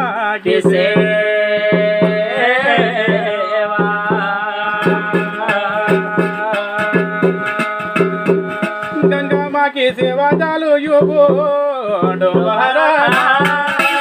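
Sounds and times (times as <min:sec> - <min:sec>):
person singing folk melody: 0:00.0 - 0:14.0
steady drumbeats: 0:00.0 - 0:14.0.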